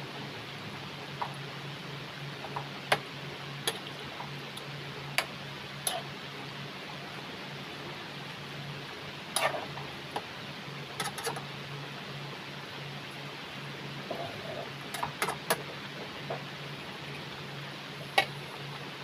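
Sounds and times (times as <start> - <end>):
low hiss and hum: 0.0 - 19.0.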